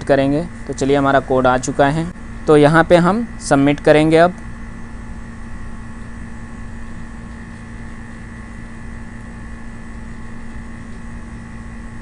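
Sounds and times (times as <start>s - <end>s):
room background hum: 0.0s - 12.0s.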